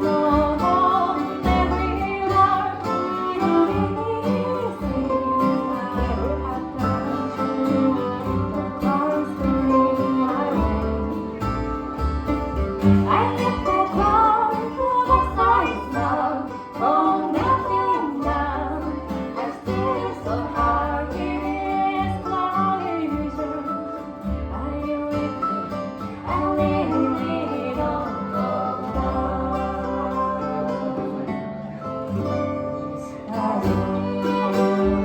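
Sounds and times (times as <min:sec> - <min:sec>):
acoustic bluegrass band playing: 0:00.0 - 0:35.0.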